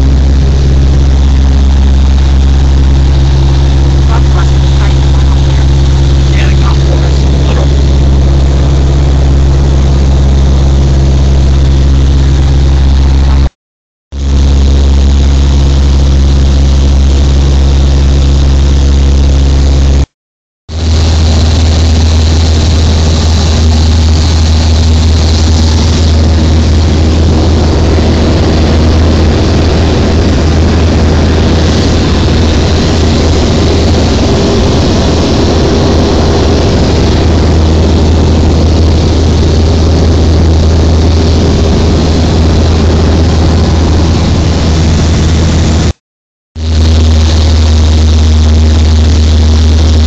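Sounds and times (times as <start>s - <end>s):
propeller aircraft engine droning: 0.0s - 13.5s, 14.1s - 20.1s, 20.7s - 46.0s, 46.6s - 50.0s.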